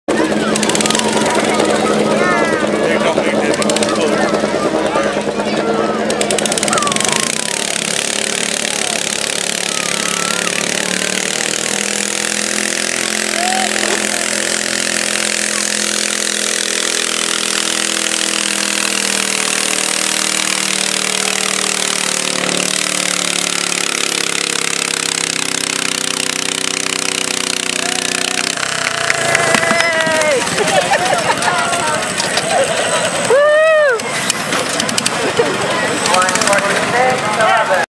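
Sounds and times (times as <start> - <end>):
tractor engine running hard: 0.1 - 37.9.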